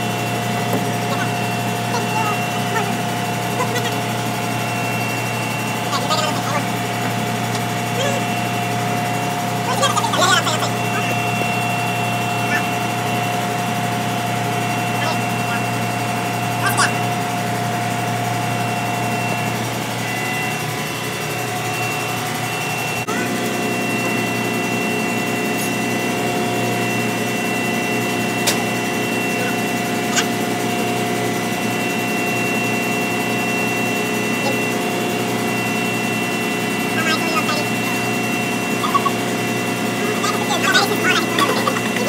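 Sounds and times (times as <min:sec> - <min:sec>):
engine-room machinery drone: 0:00.0 - 0:42.0.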